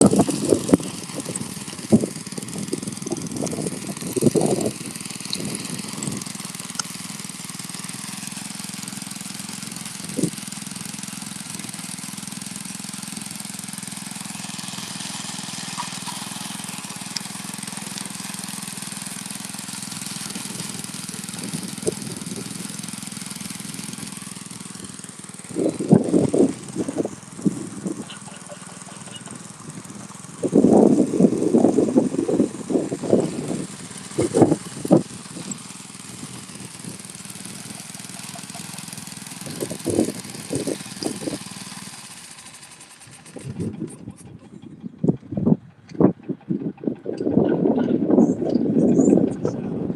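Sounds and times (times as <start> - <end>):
power trowel engine running: 0.0 - 49.9.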